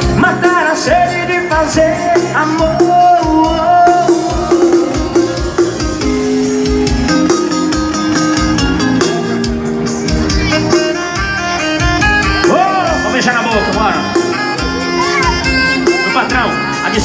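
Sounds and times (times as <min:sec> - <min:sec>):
electric guitar: 0:00.0 - 0:17.0
live band playing: 0:00.0 - 0:17.0
steady drum beat: 0:00.0 - 0:17.0.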